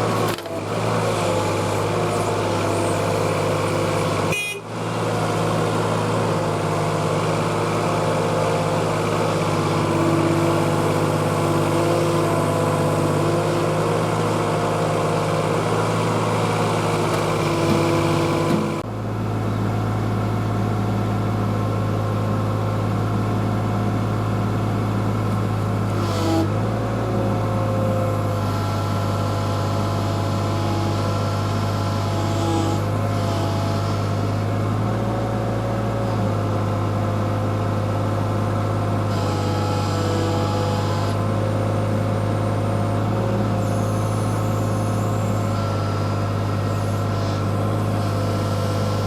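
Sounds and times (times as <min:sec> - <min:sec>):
hydraulic whine: 0:00.0 - 0:19.0, 0:25.3 - 0:37.0, 0:38.4 - 0:49.0
diesel engine running: 0:00.0 - 0:49.0.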